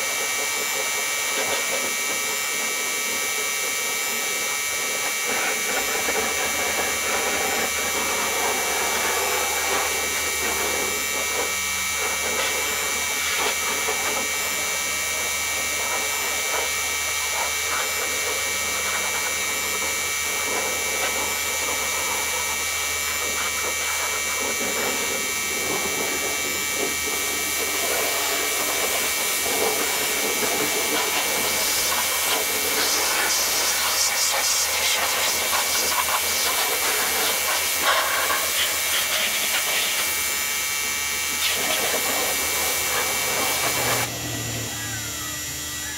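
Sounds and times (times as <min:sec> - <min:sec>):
small electric power tool humming: 0:00.0 - 0:45.9.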